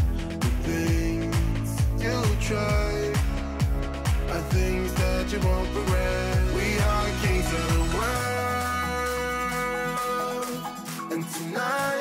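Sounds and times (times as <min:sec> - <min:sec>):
song with long held note: 0:00.0 - 0:12.0.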